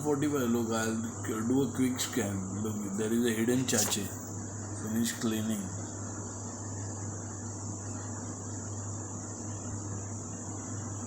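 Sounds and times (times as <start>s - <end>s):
low even hum: 0.0s - 11.0s.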